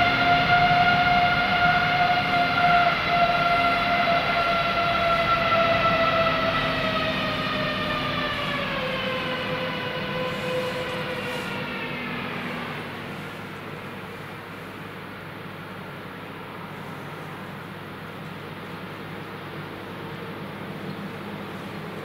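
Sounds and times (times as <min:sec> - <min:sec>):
jet engines whining: 0:00.0 - 0:22.0
rushing noise: 0:00.0 - 0:22.0.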